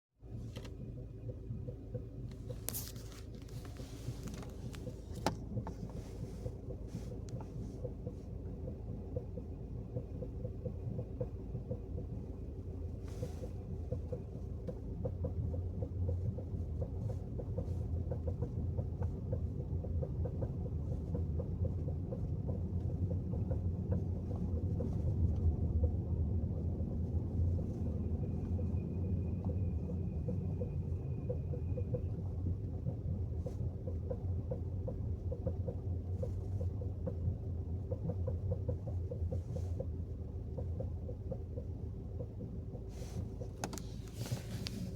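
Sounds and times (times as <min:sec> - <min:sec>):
car engine idling rumble: 0:00.2 - 0:44.9.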